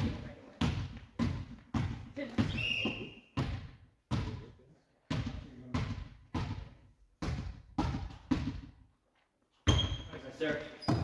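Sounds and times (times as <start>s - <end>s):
volleyball thuds: 0.0s - 8.9s.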